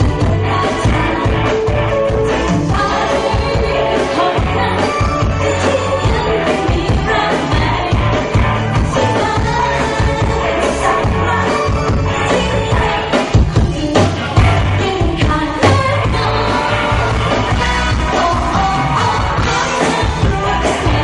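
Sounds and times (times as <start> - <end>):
rock-pop song with singing: 0.0 - 21.0.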